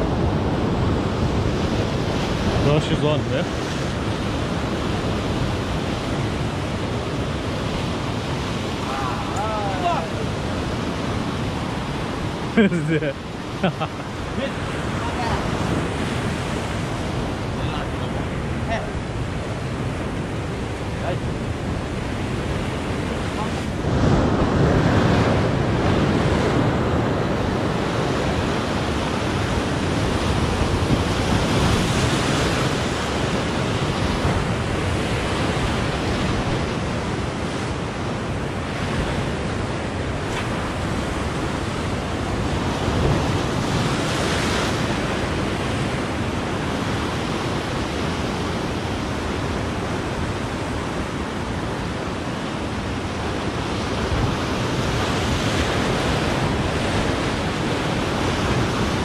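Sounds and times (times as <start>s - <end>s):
sea surf breaking over rocks: 0.0s - 59.0s.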